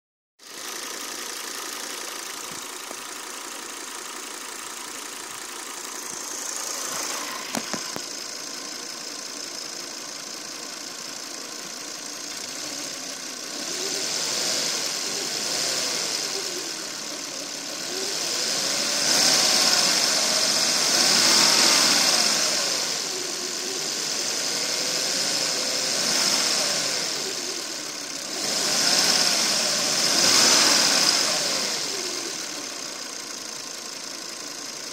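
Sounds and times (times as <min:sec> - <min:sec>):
car engine idling and revving: 0:00.4 - 0:34.9.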